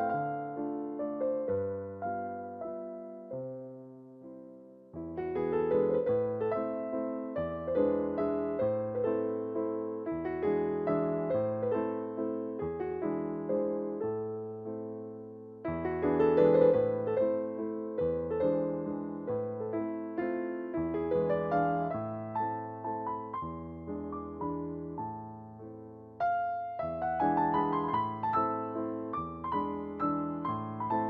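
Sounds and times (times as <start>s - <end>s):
gentle piano music: 0.0s - 31.0s.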